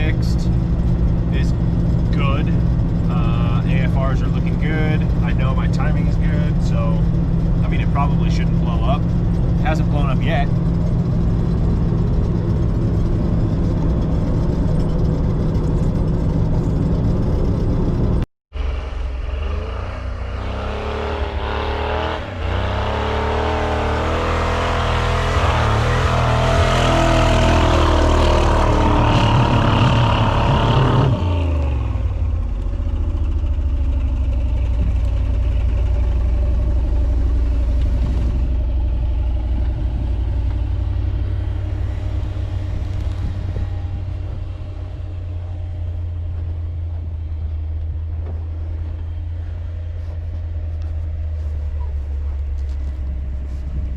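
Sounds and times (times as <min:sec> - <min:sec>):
engine revving under load: 0:00.0 - 0:53.9.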